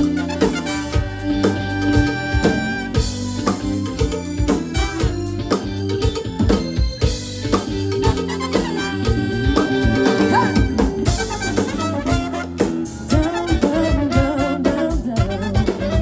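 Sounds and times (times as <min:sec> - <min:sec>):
live band playing disco-funk: 0:00.0 - 0:16.0
steady drum beat: 0:00.0 - 0:16.0
sustained keyboard chords: 0:00.0 - 0:16.0.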